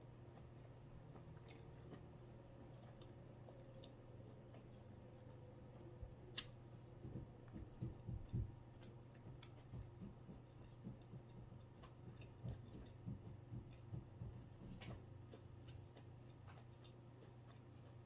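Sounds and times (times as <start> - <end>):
person chewing food: 0.2 - 18.0.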